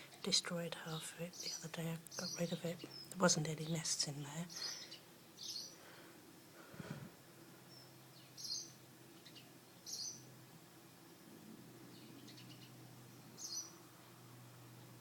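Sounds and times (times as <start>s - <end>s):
sparrows chirping: 0.0s - 6.0s, 7.6s - 10.4s, 11.0s - 15.0s
faint steady low hum: 0.0s - 15.0s.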